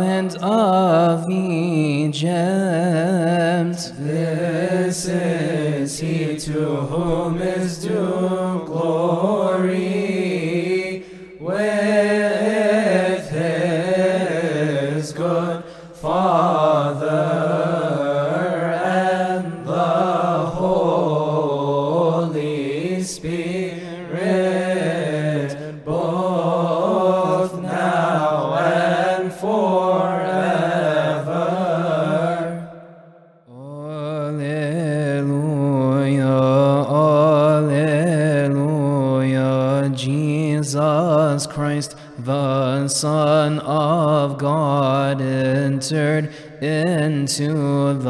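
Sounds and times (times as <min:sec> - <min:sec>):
person chanting a hymn: 0:00.0 - 0:32.9, 0:33.5 - 0:48.0.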